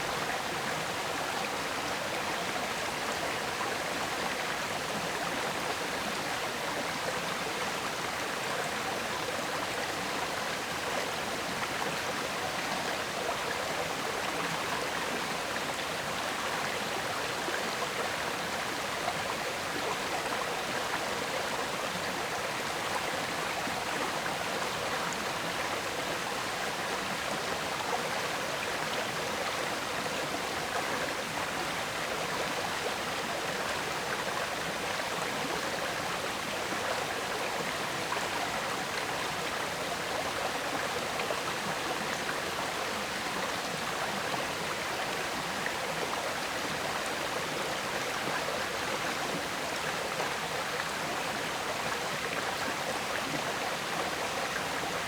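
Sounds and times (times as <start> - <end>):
river water flowing and gurgling: 0.0 - 55.0.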